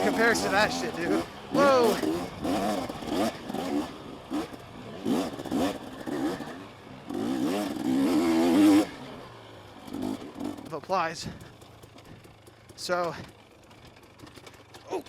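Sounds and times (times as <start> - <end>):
dirt bike engine revving: 0.0 - 14.8.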